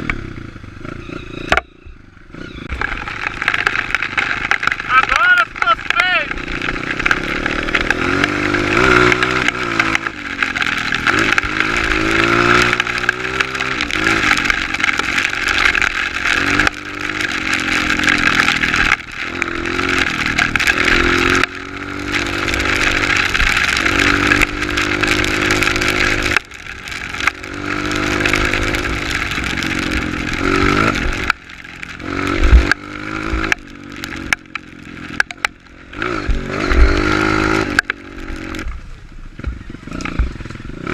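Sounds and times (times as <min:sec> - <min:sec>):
trail bike engine revving: 0:00.0 - 0:40.9.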